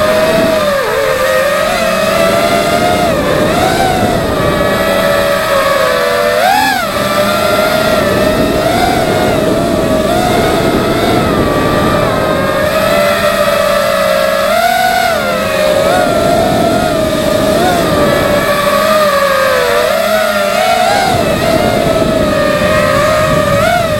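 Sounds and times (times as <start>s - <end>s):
quadcopter motors whining: 0.0s - 23.9s.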